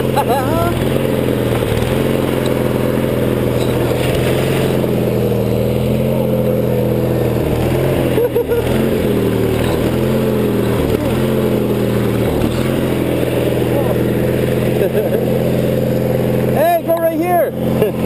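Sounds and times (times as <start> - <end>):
lawn tractor engine running: 0.0 - 18.0.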